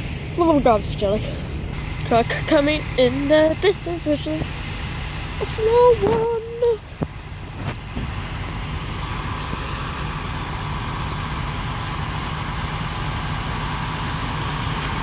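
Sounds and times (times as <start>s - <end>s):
diesel truck engines rumbling: 0.0s - 15.0s.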